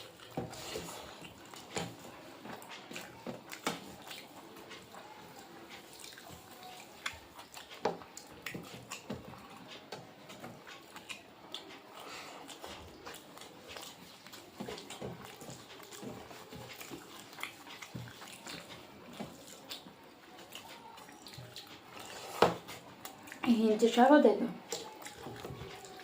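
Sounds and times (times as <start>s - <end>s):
person chewing: 0.0s - 23.4s, 24.6s - 26.0s.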